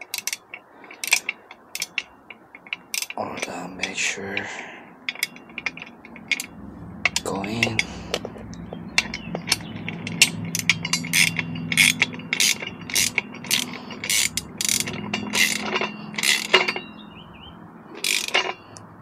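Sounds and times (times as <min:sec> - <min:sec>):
ratcheting wrench clicking: 0:00.0 - 0:04.5, 0:05.1 - 0:17.0, 0:18.0 - 0:18.9.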